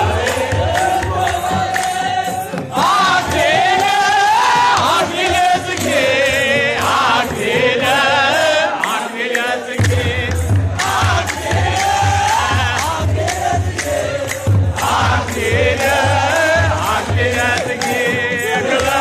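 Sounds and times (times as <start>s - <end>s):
drum beat: 0.0s - 19.0s
hand-clapping: 0.0s - 19.0s
men singing together: 0.0s - 19.0s.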